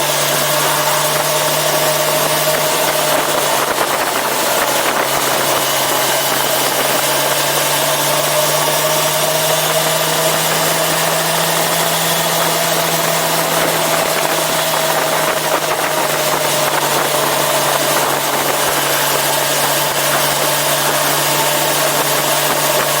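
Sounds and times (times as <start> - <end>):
constant rushing noise: 0.0 - 23.0
motorcycle engine running steadily: 0.0 - 23.0.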